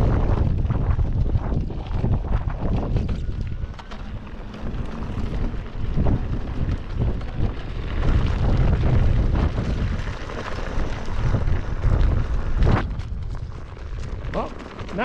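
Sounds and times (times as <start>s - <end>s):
electric unicycle rumble: 0.0s - 15.0s
wind buffeting microphone: 0.0s - 15.0s.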